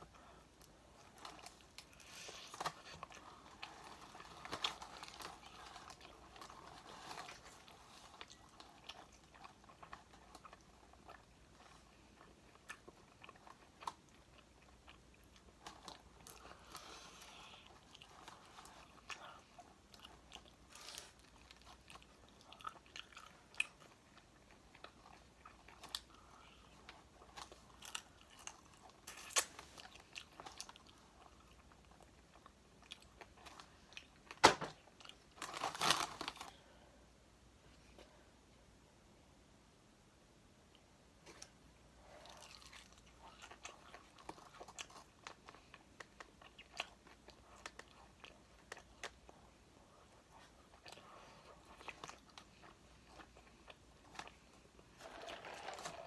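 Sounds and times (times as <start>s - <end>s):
crunching and chewing chicken: 0.2s - 36.6s, 41.2s - 56.0s.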